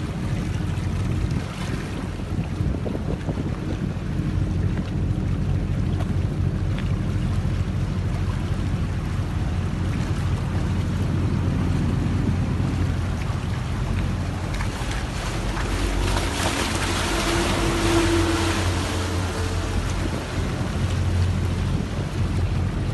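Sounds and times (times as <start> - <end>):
wind noise: 0.0 - 7.1, 9.8 - 22.9
boat engine running: 0.0 - 22.9
water wash: 0.0 - 22.9.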